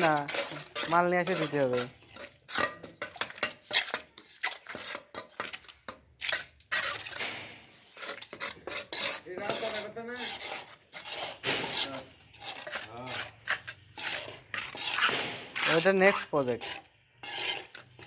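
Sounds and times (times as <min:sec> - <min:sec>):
shovels scraping in wet concrete: 0:00.0 - 0:18.0.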